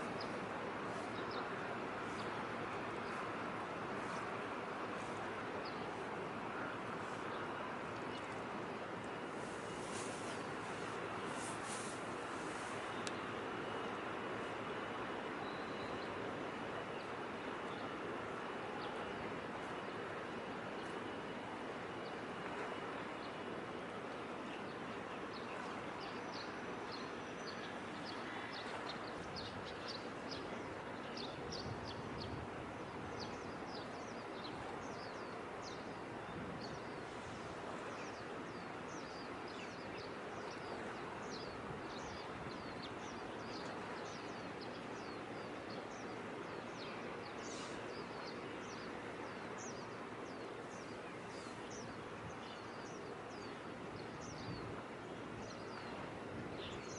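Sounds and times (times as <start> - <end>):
steady background noise: 0.0 - 56.9.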